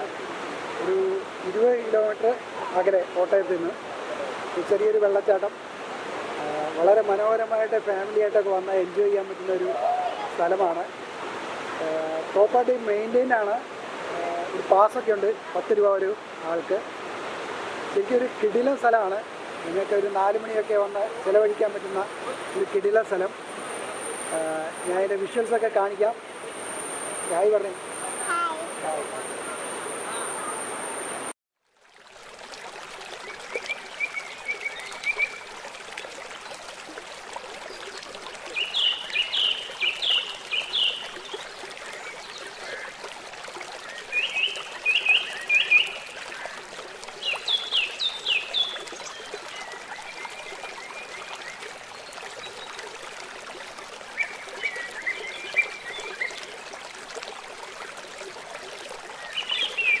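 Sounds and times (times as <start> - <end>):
waterfall rushing: 0.0 - 31.2, 32.4 - 60.0.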